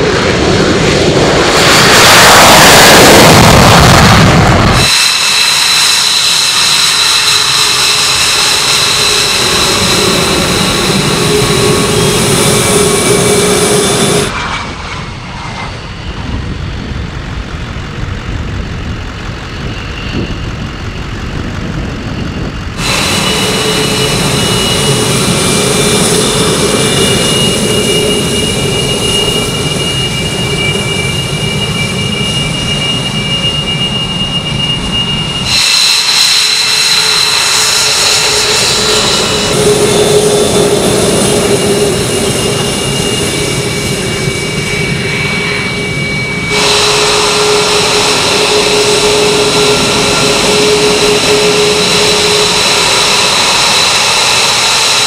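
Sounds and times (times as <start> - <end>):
distant jet taking off: 0.0 - 55.0
jet engines high whine: 0.0 - 55.0.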